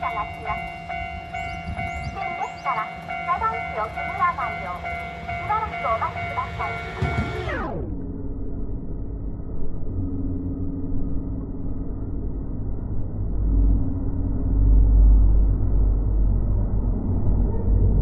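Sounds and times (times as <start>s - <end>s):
electric train deep rumble: 0.0s - 18.0s.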